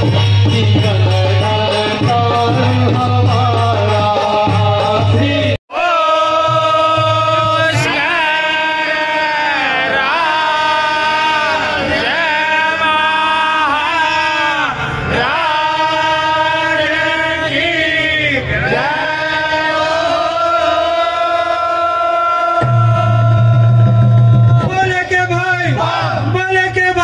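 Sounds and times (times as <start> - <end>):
devotional chanting over loudspeakers: 0.0 - 27.0.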